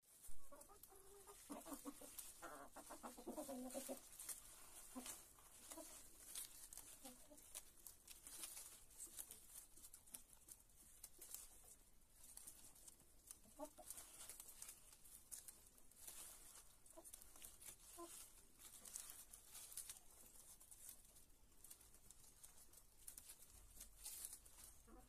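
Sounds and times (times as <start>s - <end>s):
leaves rustling: 0.0s - 25.0s
hens clucking: 0.3s - 25.0s
hens pecking clicks: 0.5s - 25.0s.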